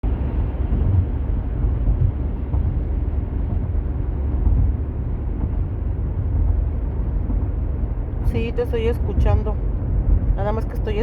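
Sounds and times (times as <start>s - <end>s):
car interior road noise: 0.0s - 11.0s.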